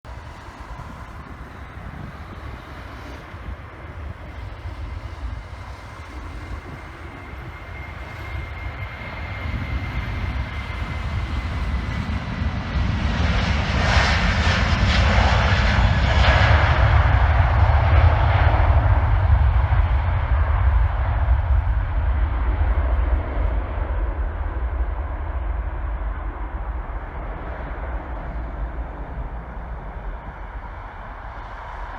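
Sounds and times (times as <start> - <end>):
jet engines roaring at takeoff: 0.0 - 31.9.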